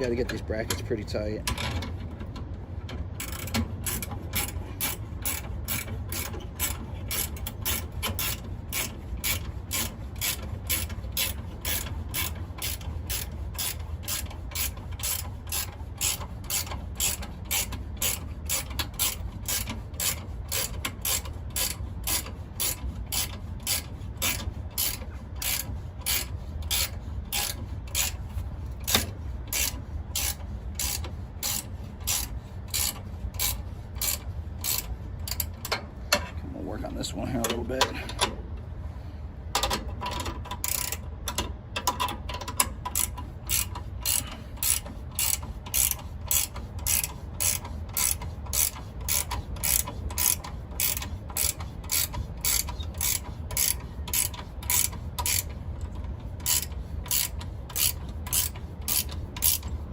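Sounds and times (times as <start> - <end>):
ratchet wrench clicking: 3.2 - 28.2, 28.8 - 35.8, 39.5 - 59.8.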